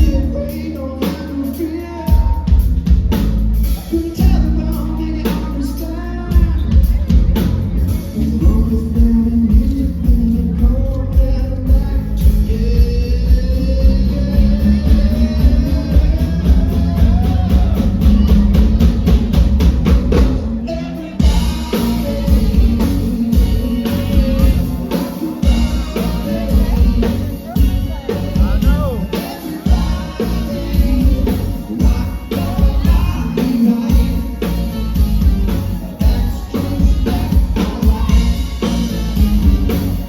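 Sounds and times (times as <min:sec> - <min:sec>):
drum kit beat: 0:00.0 - 0:40.0
person singing: 0:00.0 - 0:40.0
pop-rock song: 0:00.0 - 0:40.0.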